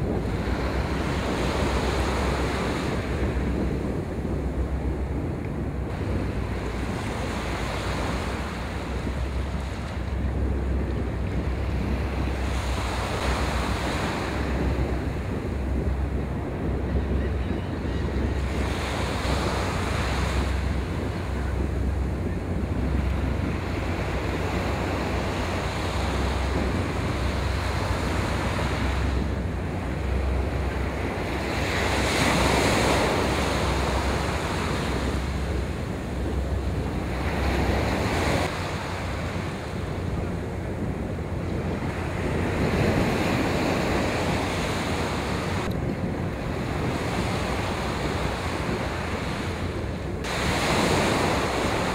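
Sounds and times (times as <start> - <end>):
small waves washing onto sand: 0.0 - 51.9
wind rumbling on microphone: 0.0 - 51.9.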